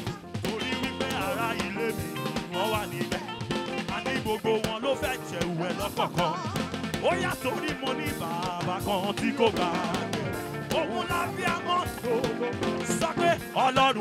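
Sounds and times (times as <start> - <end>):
live drums and band: 0.0 - 14.0
man singing into a microphone: 0.0 - 14.0.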